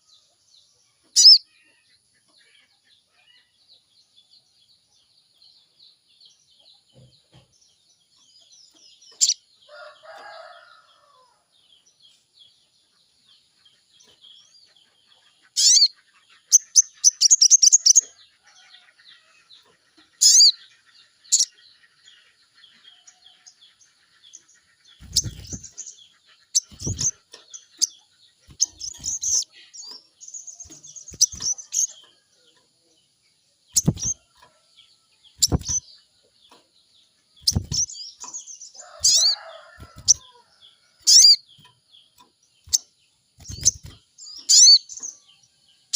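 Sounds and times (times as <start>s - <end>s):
bird chirps and trills: 0.0s - 11.2s, 11.9s - 45.9s.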